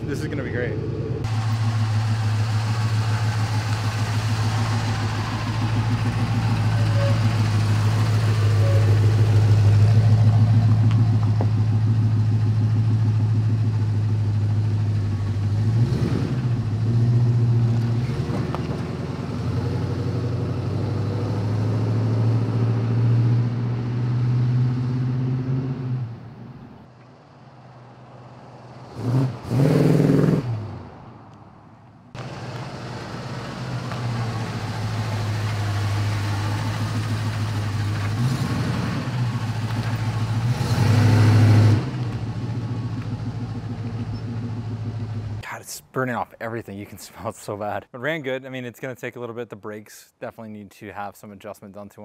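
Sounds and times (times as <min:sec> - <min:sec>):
truck engine driving off: 0:00.0 - 0:31.0, 0:32.1 - 0:45.6.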